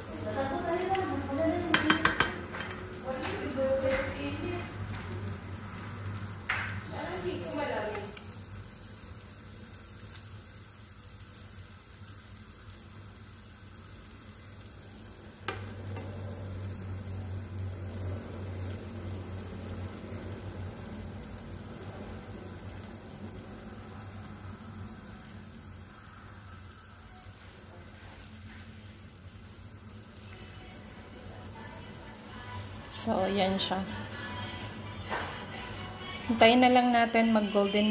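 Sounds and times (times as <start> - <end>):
chicken deep-frying in oil: 0.0 - 37.9.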